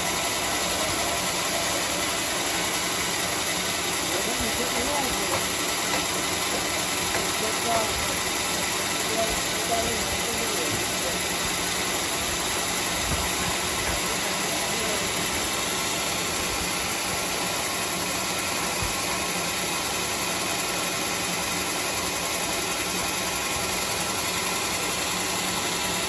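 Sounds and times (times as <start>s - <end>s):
band sawmill running: 0.0s - 26.0s.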